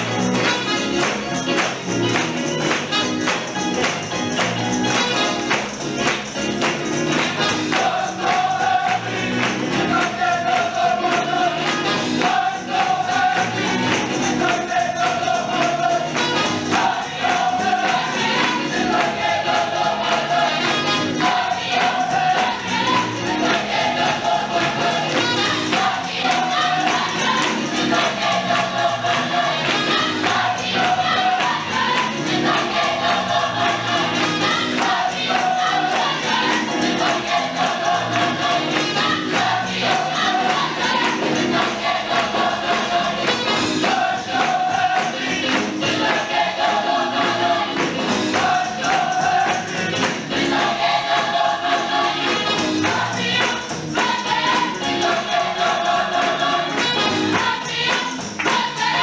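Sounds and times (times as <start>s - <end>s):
percussion beat: 0.0s - 59.0s
choir singing: 6.9s - 59.0s.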